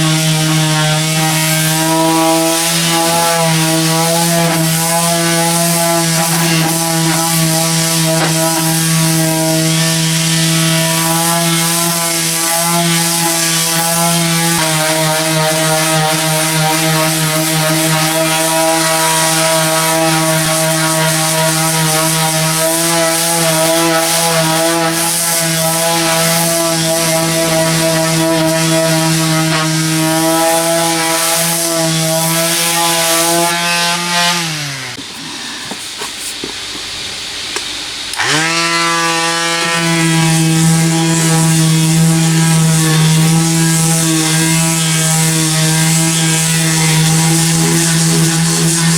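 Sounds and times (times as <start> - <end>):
electric sander motor whine: 0.0 - 35.0, 38.1 - 48.9.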